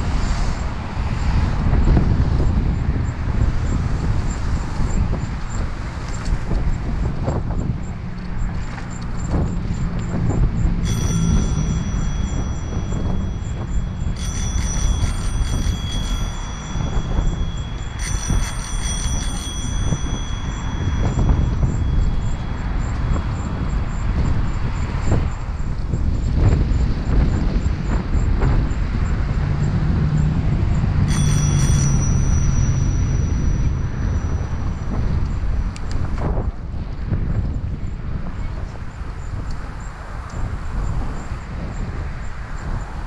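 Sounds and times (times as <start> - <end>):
bicycle bell ringing: 0.0 - 43.0
wind rushing on microphone: 0.0 - 43.0.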